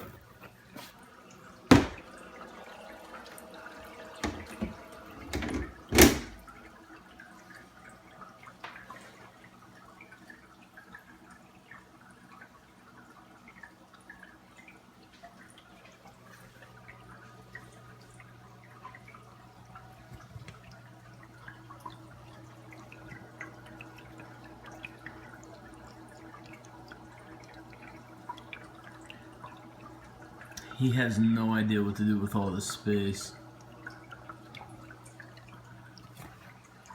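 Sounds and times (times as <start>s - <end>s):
low steady hum: 0.0s - 36.9s
small waterfall trickling: 0.0s - 36.9s.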